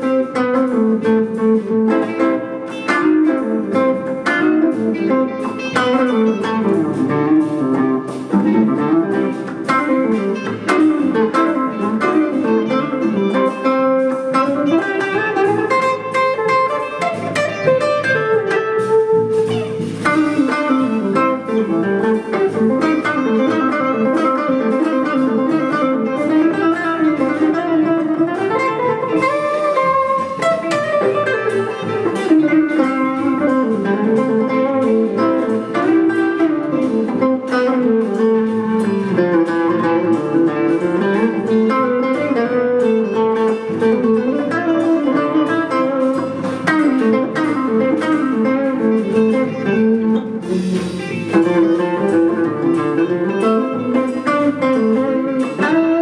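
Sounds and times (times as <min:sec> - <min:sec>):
electric guitar playing: 0:00.0 - 0:56.0.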